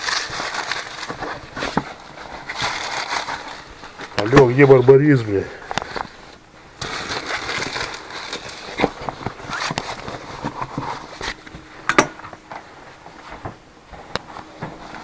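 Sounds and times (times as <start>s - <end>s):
bags rustling: 0.0s - 15.0s.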